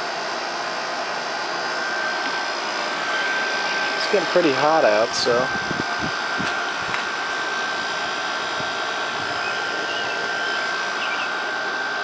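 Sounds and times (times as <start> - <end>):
air conditioner fan blowing: 0.0 - 12.0
thin steady whine: 0.0 - 12.0.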